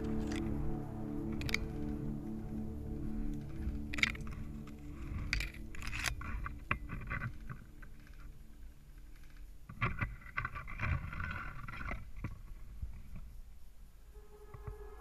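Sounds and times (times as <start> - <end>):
branches and leaves rustling: 0.0 - 15.0.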